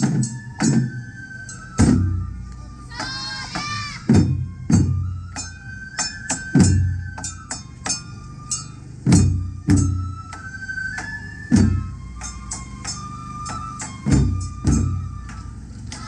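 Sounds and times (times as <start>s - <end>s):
bamboo flute long notes: 0.0s - 16.0s
taiko drum strokes: 0.0s - 16.0s.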